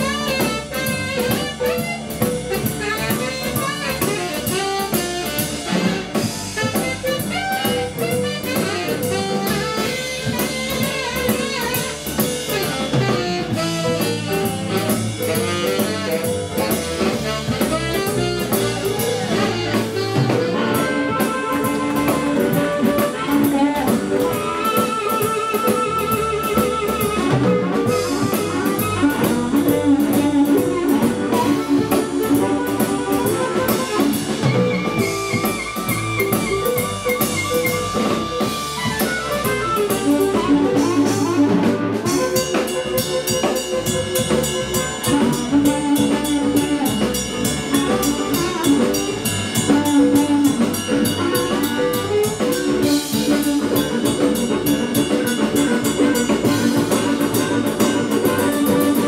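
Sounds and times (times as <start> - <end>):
amplified harmonica solo: 0.0 - 59.0
blues band playing: 0.0 - 59.0.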